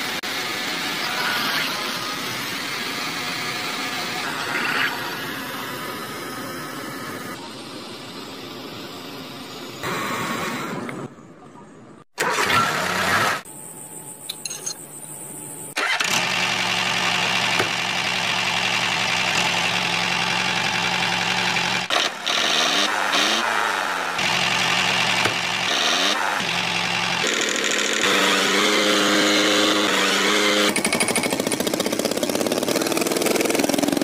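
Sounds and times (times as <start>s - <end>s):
engine running: 0.0s - 11.2s, 15.7s - 34.0s.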